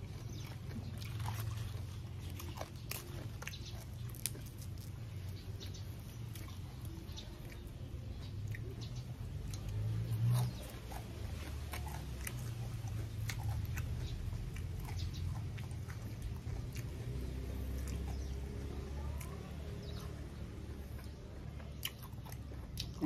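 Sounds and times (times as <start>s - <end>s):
wet chewing and smacking: 0.0s - 23.0s.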